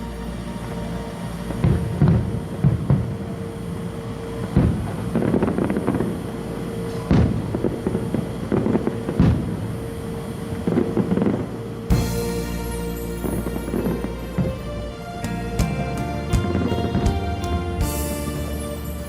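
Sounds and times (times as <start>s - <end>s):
fireworks crackling: 0.0s - 19.0s
fireworks bangs: 0.2s - 19.0s.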